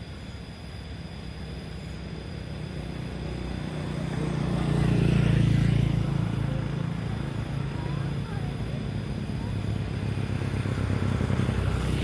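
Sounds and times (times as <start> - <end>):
engine passing by: 1.3 - 12.0.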